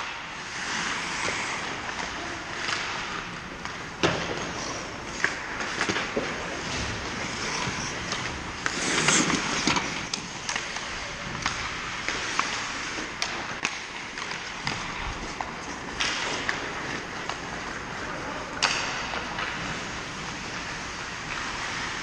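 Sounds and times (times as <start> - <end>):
skate blades scraping ice: 0.0 - 22.0
sticks and puck clacking: 0.0 - 22.0.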